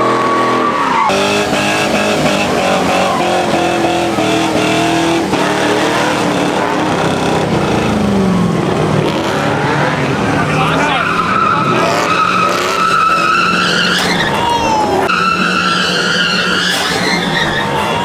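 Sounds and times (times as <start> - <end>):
tires spinning: 0.0 - 18.0
truck engines revving hard: 0.0 - 18.0.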